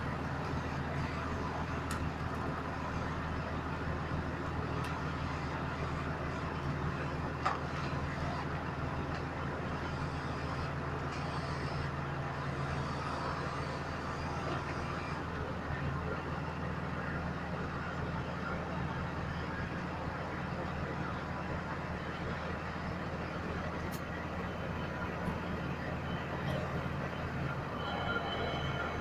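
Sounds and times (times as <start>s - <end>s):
road roller engine running: 0.0s - 29.0s.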